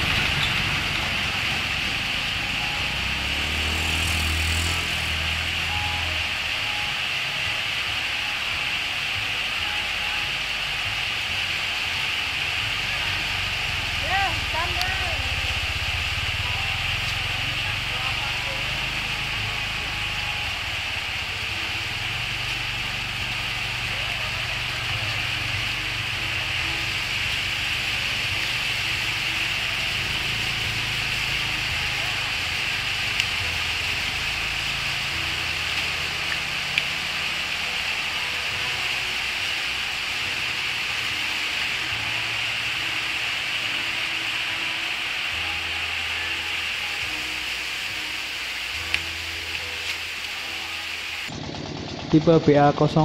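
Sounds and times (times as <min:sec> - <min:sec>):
extruder machine hissing: 0:00.0 - 0:51.3.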